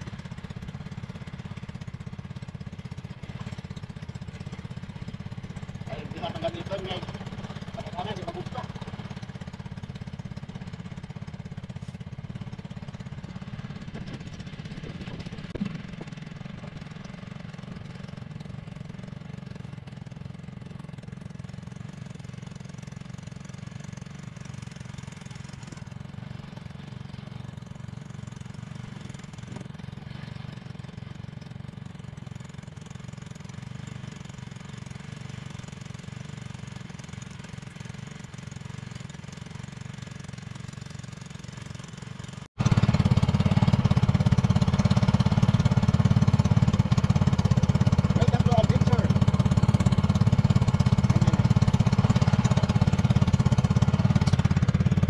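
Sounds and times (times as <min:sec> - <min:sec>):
boat engine chugging: 0:00.0 - 0:55.0.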